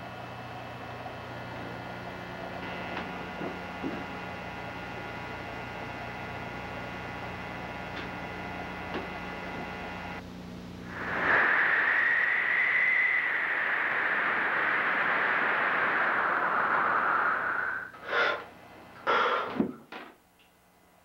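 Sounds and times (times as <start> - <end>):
high steady whine: 0.0 - 20.0
electrical hum: 0.0 - 21.0
loud static-like hiss: 0.0 - 21.0.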